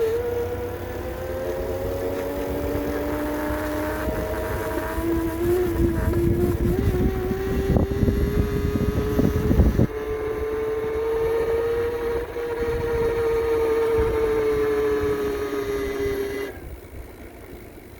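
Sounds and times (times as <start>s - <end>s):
electric motor whining: 0.0s - 17.8s.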